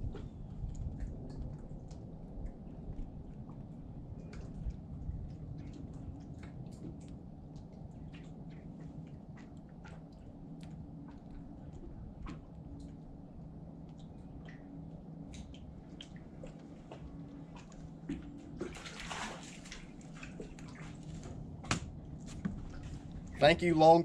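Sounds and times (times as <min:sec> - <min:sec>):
low steady rumble: 0:00.0 - 0:24.0
water lapping against boat hull: 0:00.0 - 0:24.0.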